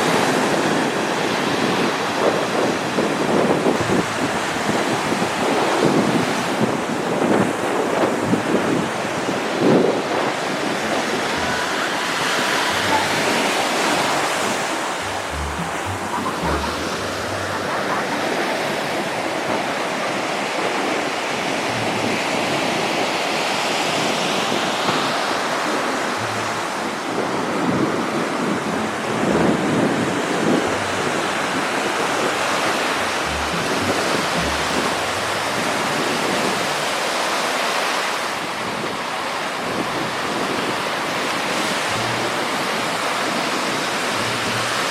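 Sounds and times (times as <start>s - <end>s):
sea surf washing ashore: 0.0s - 44.9s
wind rumbling on microphone: 0.0s - 44.9s.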